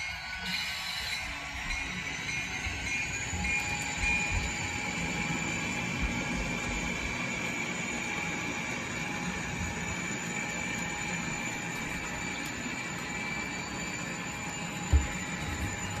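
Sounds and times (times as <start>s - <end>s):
high whine: 0.0s - 16.0s
model train running: 0.0s - 16.0s.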